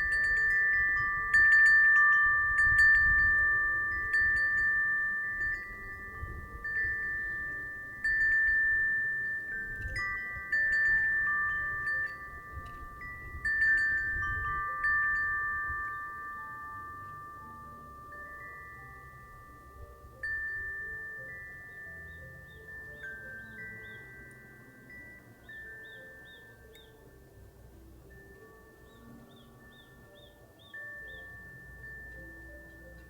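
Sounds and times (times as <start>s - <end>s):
low wind rumble: 0.0s - 33.0s
wind chime ringing: 0.0s - 33.0s.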